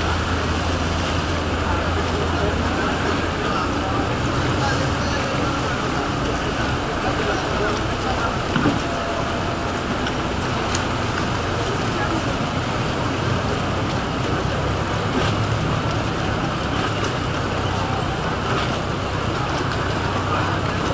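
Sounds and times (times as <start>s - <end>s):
crowd chatter: 0.0s - 20.9s
motorboat engines humming: 0.0s - 20.9s.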